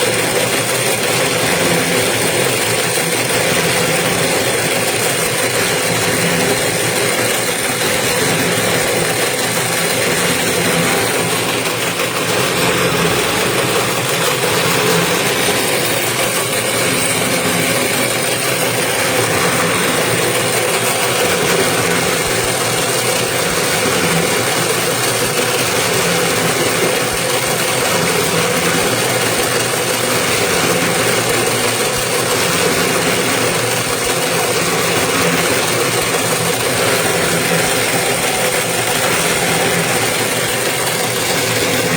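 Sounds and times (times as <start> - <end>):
winding machine motor hum: 0.0 - 41.9.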